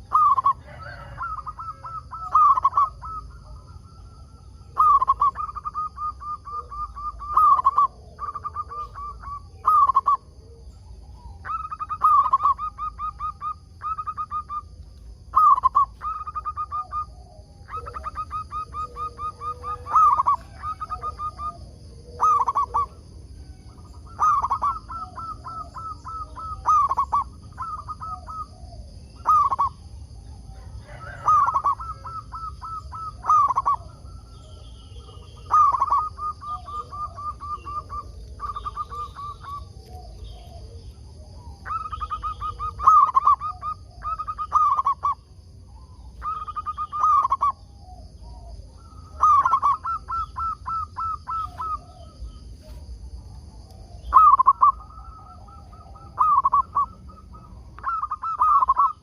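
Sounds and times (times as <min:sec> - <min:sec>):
dove cooing: 0:00.0 - 0:59.0
faint high-pitched whine: 0:00.0 - 0:59.0.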